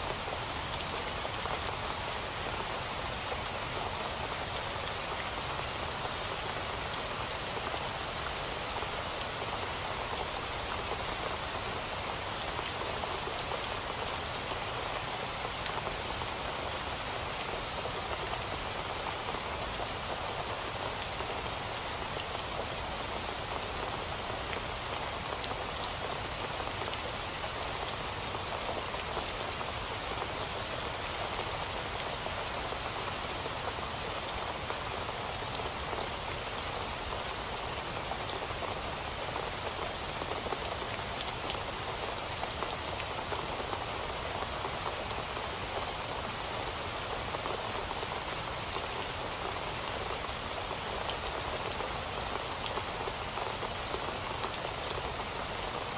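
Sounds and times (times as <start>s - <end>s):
rain pattering on a surface: 0.0s - 55.9s.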